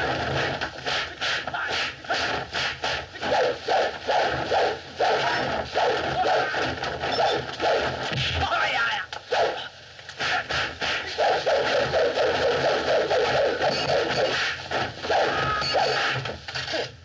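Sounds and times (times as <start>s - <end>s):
fight swishes and blows: 0.0s - 8.4s, 9.4s - 16.3s.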